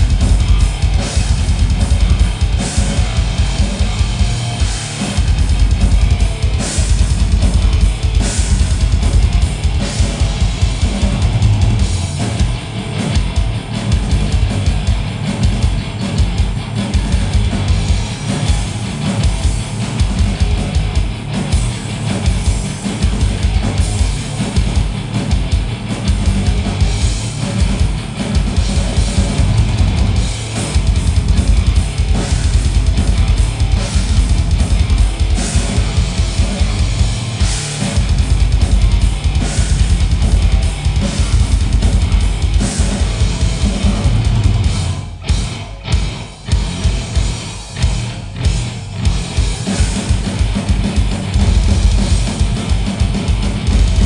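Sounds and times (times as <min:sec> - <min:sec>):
distorted guitar and bass: 0:00.0 - 0:54.0
fast bass drum strokes: 0:00.0 - 0:54.0
grindcore band playing: 0:00.0 - 0:54.0.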